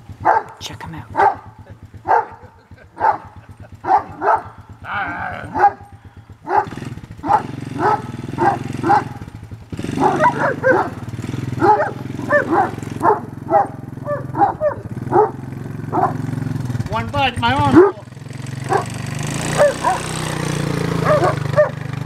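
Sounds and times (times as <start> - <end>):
atv engine running: 0.0 - 22.0
dog barking: 0.2 - 9.3, 9.9 - 16.2, 17.7 - 20.2, 21.0 - 21.8.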